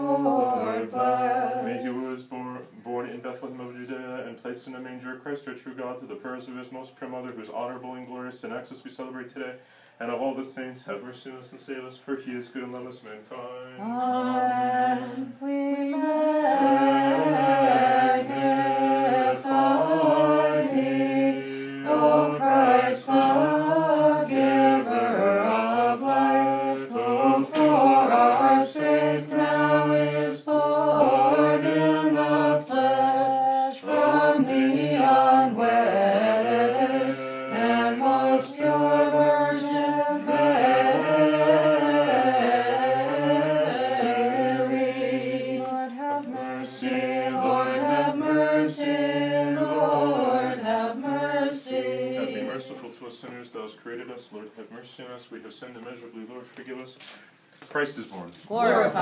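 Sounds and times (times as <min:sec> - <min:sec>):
unaccompanied voices singing chant: 0:00.0 - 0:08.3, 0:10.1 - 0:54.8, 0:58.5 - 0:59.0.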